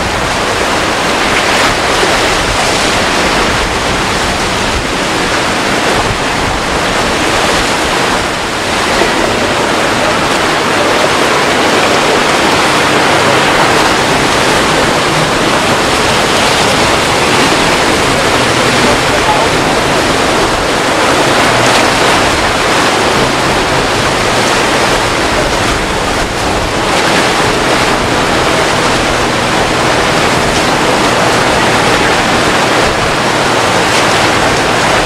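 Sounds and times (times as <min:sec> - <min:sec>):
surf and breaking waves: 0:00.0 - 0:35.0.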